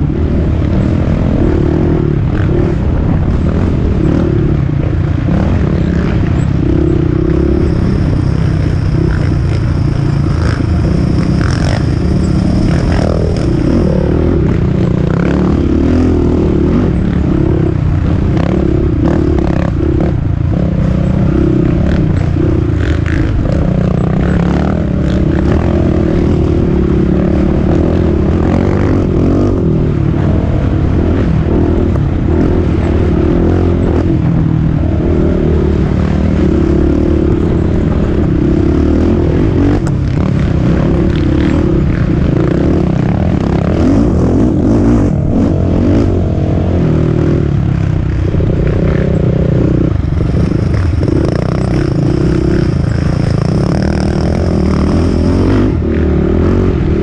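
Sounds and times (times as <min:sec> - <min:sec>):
quad engine revving: 0:05.2 - 0:57.0.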